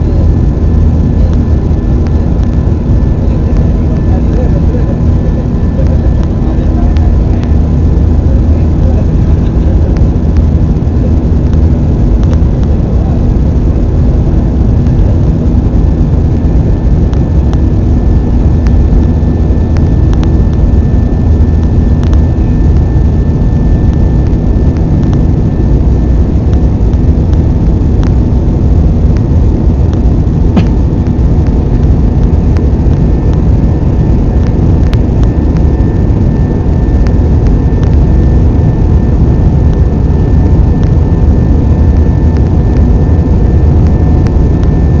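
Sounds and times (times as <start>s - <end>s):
airplane cabin engine rumble: 0.0s - 45.0s
faint steady tones: 0.0s - 45.0s.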